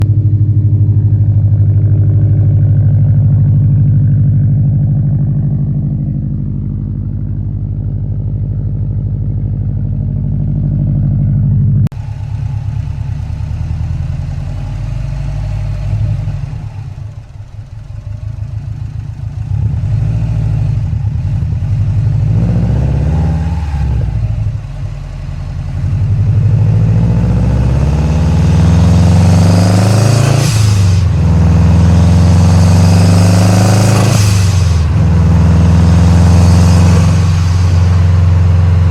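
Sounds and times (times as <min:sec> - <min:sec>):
car engine and exhaust revving: 0:00.0 - 0:38.9.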